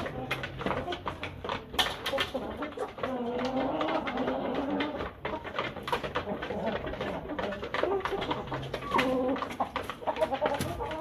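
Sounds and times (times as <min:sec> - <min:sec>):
chickens making low calls: 0:00.0 - 0:11.0.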